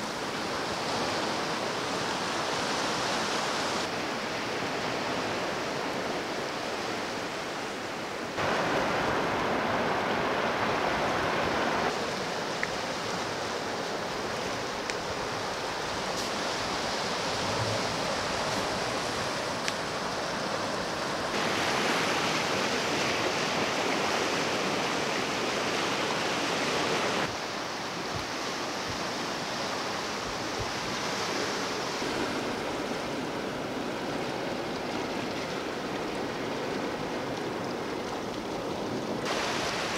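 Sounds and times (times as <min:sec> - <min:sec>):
sea surf on rocky shore: 0:00.0 - 0:39.9.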